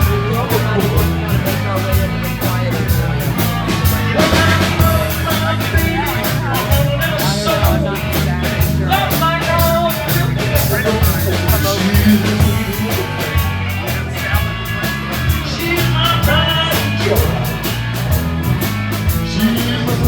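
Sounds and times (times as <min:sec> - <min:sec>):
person singing: 0:00.0 - 0:17.6, 0:19.1 - 0:20.0
rock band playing: 0:00.0 - 0:20.0.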